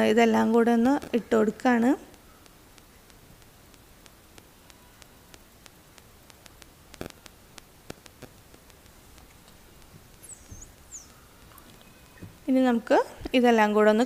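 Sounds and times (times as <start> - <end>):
faint regular ticking: 0.0 - 14.0
faint steady hiss: 0.0 - 14.0.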